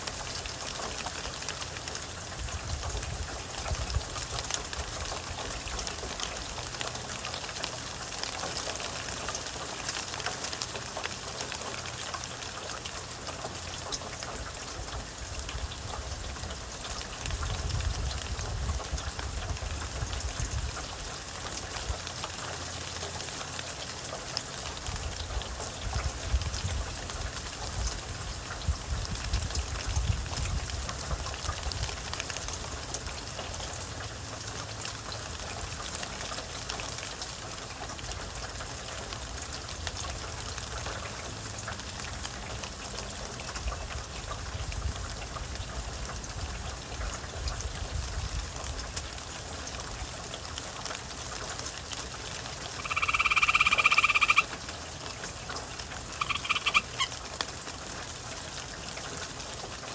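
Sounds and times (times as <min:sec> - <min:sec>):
raindrops ticking: 0:00.0 - 0:59.9
steady rainfall: 0:00.0 - 0:59.9.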